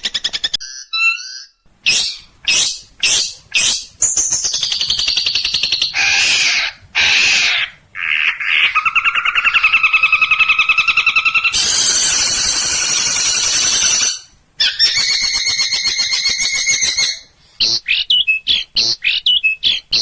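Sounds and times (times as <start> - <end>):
songbird singing: 0.6 - 20.0.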